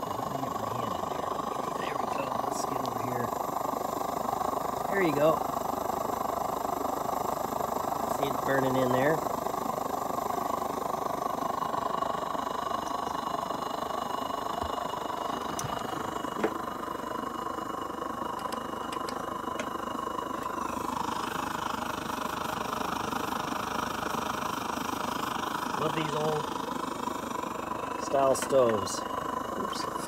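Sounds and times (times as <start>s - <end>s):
stove burner rushing: 0.0s - 30.0s.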